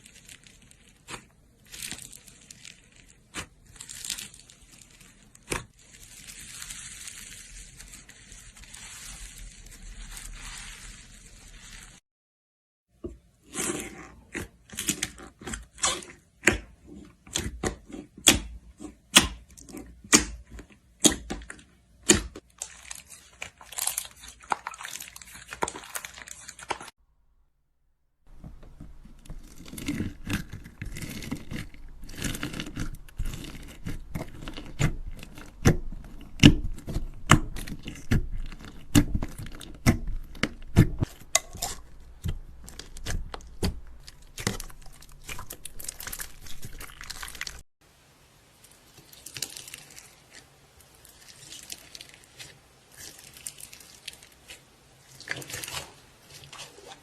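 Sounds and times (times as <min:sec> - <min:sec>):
slime popping and crackling: 0:00.0 - 0:12.0, 0:19.1 - 0:26.9, 0:28.8 - 0:47.6, 0:48.9 - 0:56.9.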